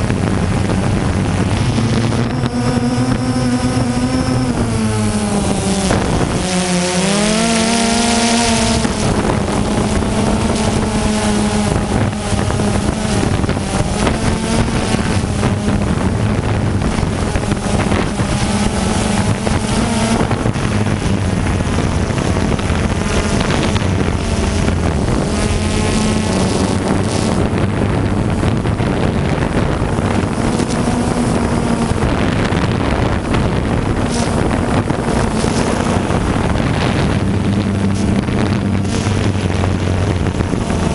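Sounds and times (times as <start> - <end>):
quadcopter motors humming: 0.0 - 40.9
wind buffeting microphone: 0.0 - 40.9.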